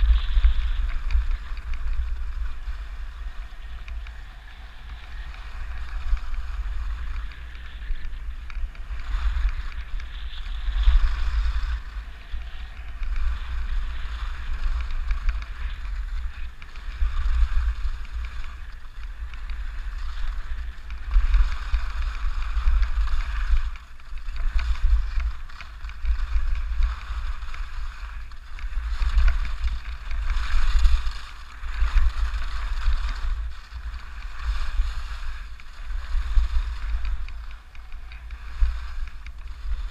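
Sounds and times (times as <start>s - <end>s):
skis scraping over snow: 0.0s - 39.9s
wind rumble on microphone: 0.0s - 39.9s.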